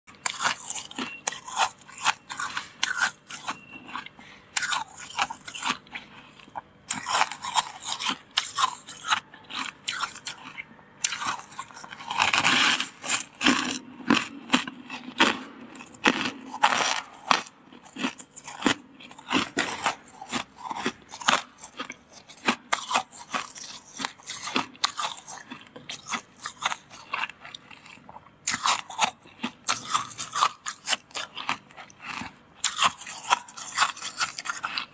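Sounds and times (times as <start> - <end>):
frost being chewed crunching: 0.1 - 34.9.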